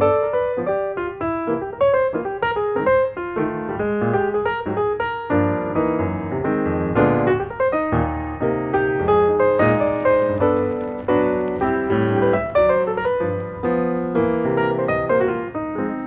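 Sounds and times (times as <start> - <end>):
piano melody over chords: 0.0 - 16.0.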